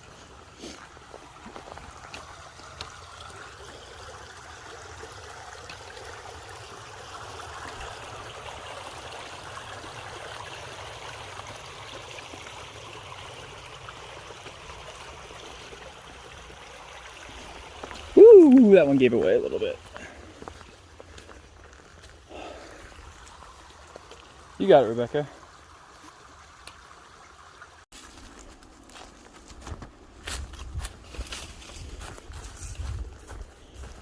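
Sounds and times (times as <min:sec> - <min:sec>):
creek flowing and trickling: 0:00.0 - 0:34.0.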